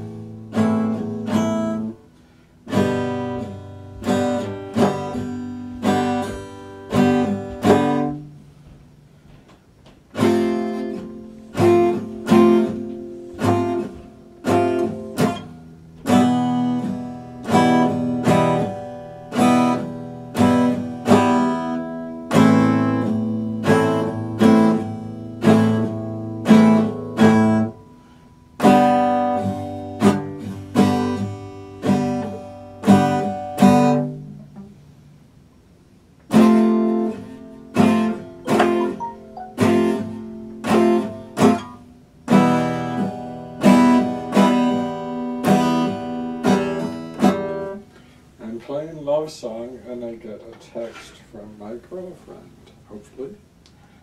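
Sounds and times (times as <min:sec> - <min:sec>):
fingerpicked acoustic guitar: 0:00.0 - 0:54.0.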